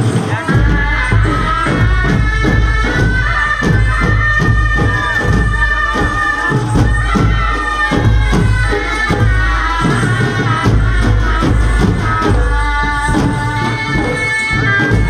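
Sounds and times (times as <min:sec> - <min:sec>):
large drums beating: 0:00.0 - 0:15.0.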